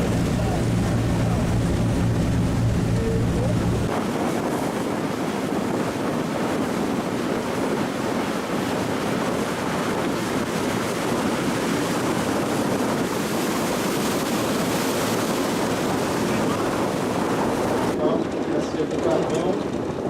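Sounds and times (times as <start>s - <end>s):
wind rushing: 0.0s - 18.0s
water rushing: 0.0s - 18.2s.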